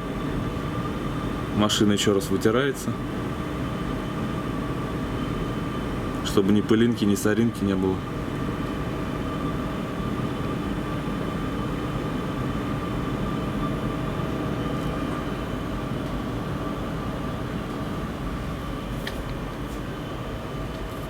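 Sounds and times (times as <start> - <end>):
ventilation fans whirring: 0.0 - 21.0.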